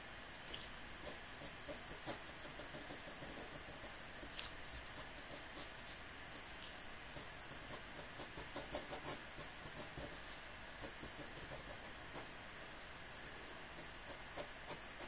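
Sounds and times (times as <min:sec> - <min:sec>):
pen scratching on paper: 0:00.5 - 0:12.4, 0:13.7 - 0:15.0.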